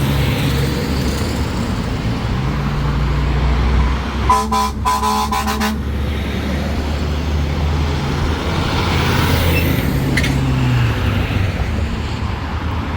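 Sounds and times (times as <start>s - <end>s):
truck engines droning: 0.0s - 12.9s.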